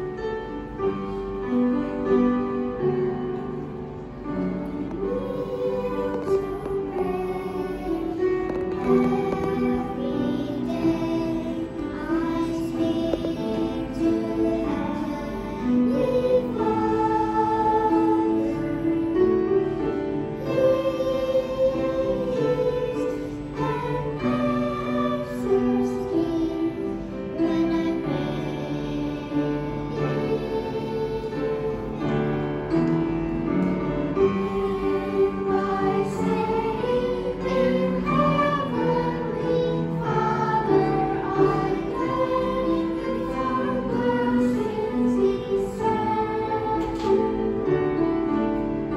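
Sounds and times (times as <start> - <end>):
children's choir singing: 0.0 - 48.9
musical accompaniment: 0.0 - 48.9.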